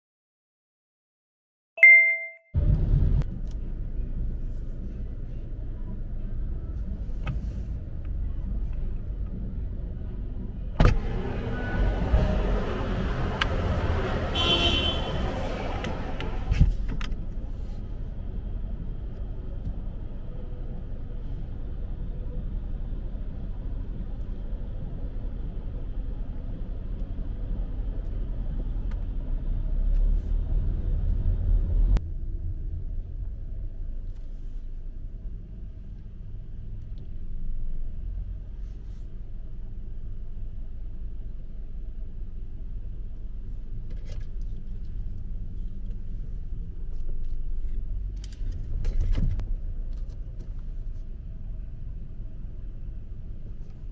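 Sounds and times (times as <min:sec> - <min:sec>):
vehicle road noise rumble: 0:02.6 - 0:53.9.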